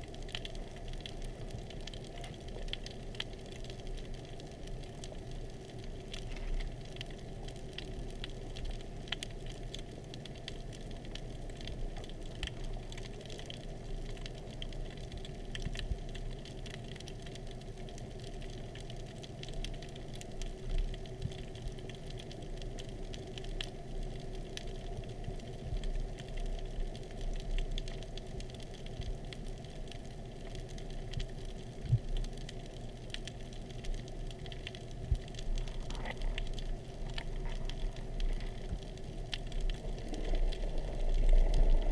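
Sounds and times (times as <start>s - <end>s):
faint constant tone: 0.0s - 41.9s
small clicks and crackles: 0.0s - 41.9s
steady low underwater hum: 0.0s - 41.9s.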